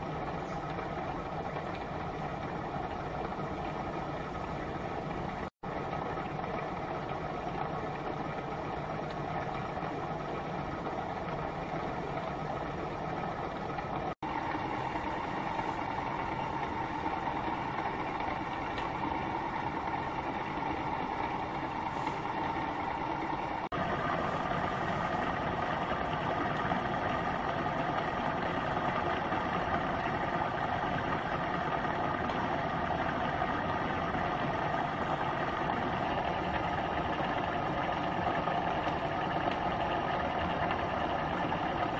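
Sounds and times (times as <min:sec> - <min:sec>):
small engine mechanical running: 0:00.0 - 0:41.9.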